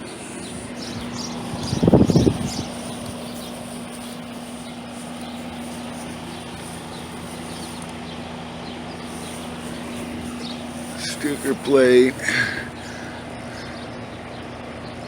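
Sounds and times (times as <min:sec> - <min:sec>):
air conditioner fan hum: 0:00.0 - 0:15.0.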